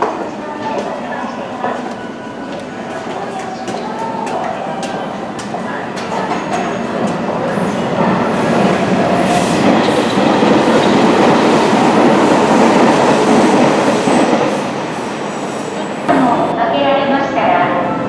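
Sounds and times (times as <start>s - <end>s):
electric train running on track: 0.0s - 16.5s.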